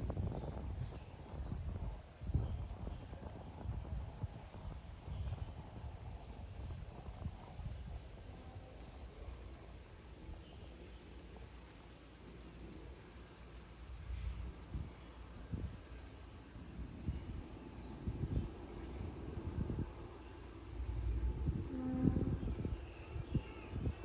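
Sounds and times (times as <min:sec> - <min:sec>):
low uneven rumble: 0:00.0 - 0:24.0.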